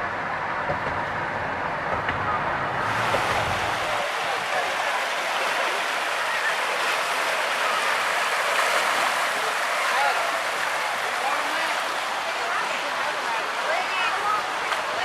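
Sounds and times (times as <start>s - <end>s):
water rushing and splashing: 0.0s - 15.0s
faint voices: 1.5s - 15.0s.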